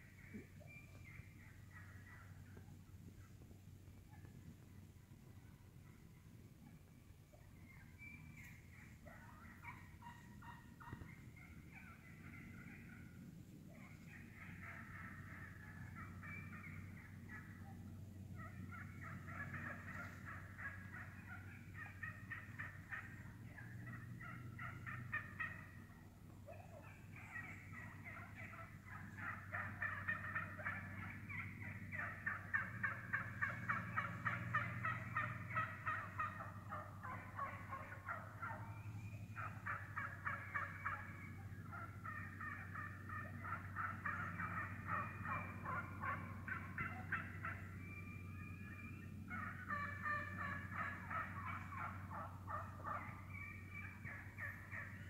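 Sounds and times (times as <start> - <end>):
wild turkeys clucking and purring: 0.0 - 55.0.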